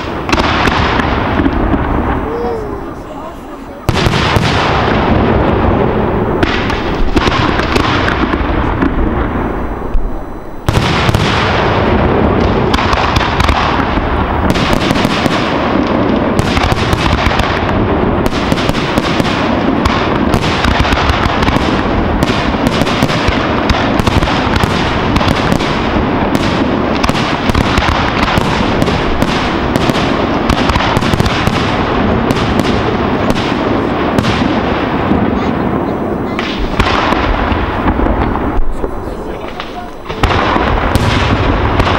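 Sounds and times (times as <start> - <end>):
fireworks bursts and bangs: 0.0 - 41.9.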